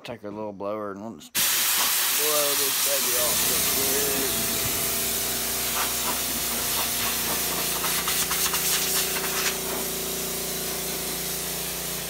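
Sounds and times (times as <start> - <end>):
handheld blower rushing hiss: 1.4 - 12.0.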